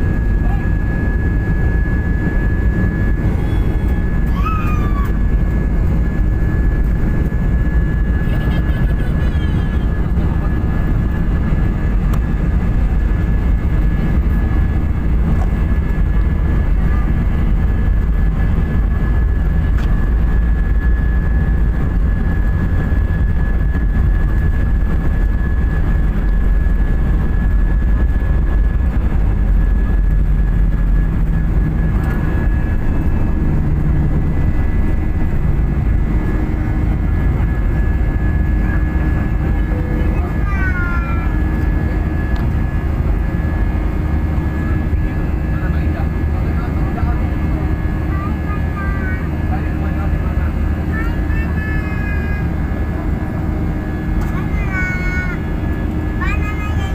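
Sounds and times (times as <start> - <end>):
jet airliner cabin drone: 0.0 - 56.9
thin steady whine: 0.0 - 56.9.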